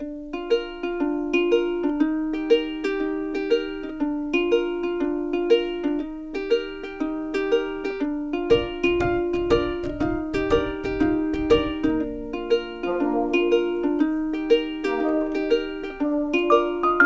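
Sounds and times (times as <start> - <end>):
plucked-string tune: 0.0 - 17.0.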